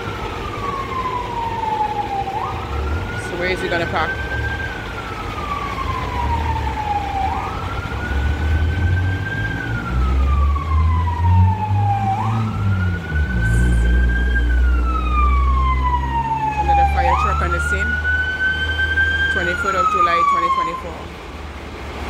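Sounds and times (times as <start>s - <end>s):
fire truck siren wailing: 0.0s - 21.4s
low engine rumble: 0.0s - 22.0s.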